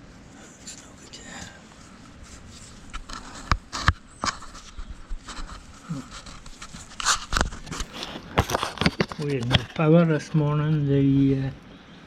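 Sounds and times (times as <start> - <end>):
rustling scrape: 0.4 - 10.8.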